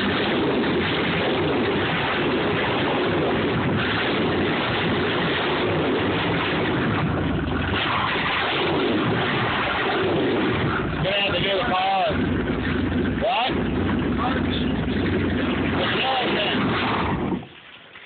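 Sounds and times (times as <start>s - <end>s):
boat engine running: 0.0s - 17.7s.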